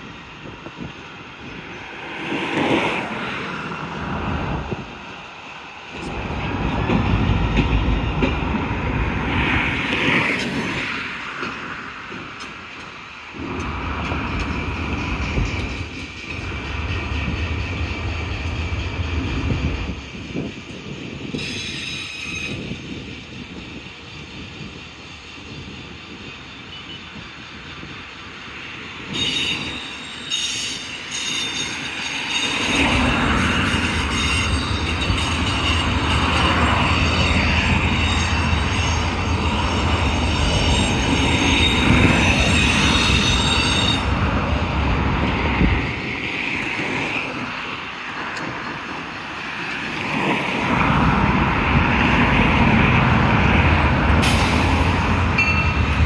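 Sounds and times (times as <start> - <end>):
low rumble of train cars: 0.0 - 56.0
train wheels squealing on rails: 4.6 - 56.0.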